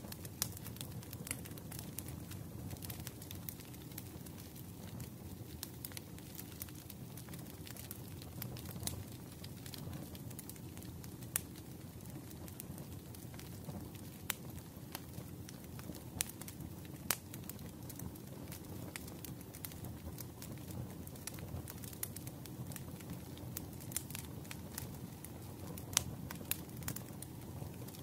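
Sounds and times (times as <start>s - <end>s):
low rumble of burning: 0.0s - 28.0s
wood fire crackling: 0.0s - 28.0s.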